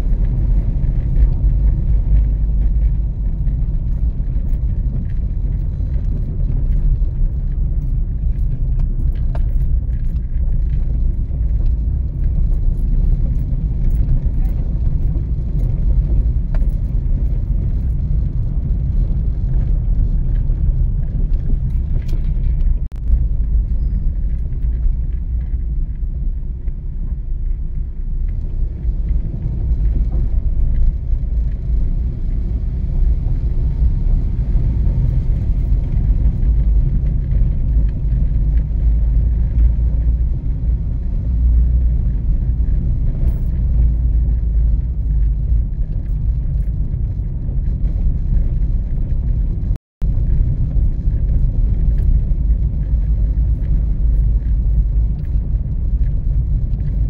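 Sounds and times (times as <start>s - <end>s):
car engine rumble and road noise: 0.0s - 57.0s.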